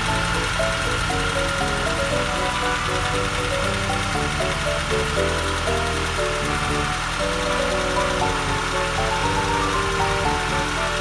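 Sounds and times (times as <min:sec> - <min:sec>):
background music with held notes: 0:00.0 - 0:11.0
car engine idling: 0:00.0 - 0:11.0.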